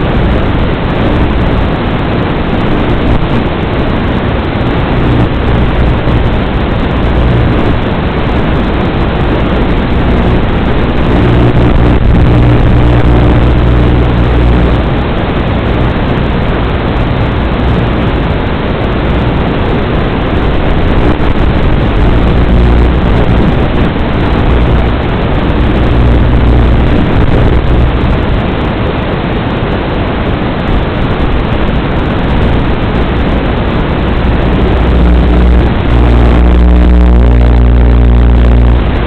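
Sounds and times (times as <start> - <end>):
engine running: 0.0 - 29.0, 30.2 - 39.0
loud rushing noise: 0.0 - 39.0.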